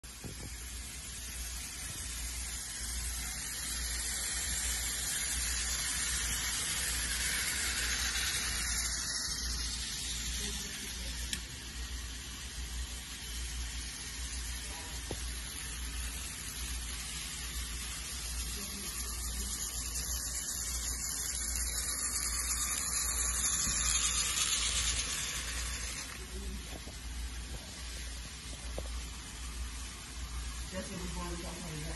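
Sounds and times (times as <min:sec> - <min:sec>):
toy train motors whirring: 0:00.0 - 0:31.9.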